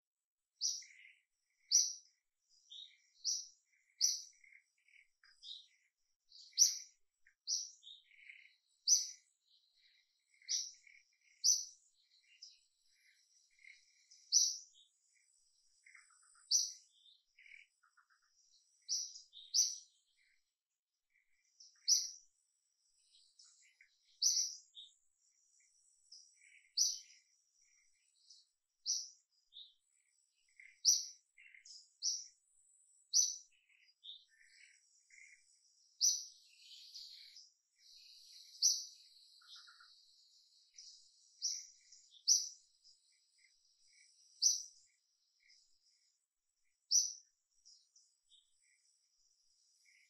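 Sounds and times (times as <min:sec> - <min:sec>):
bird chirps: 0:00.0 - 0:50.0.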